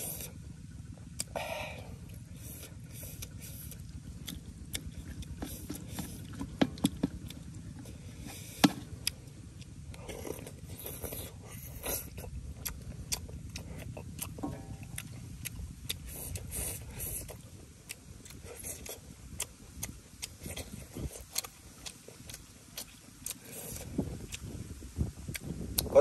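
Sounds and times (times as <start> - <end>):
chewing: 0.0 - 26.0
steady low rumble: 0.0 - 26.0.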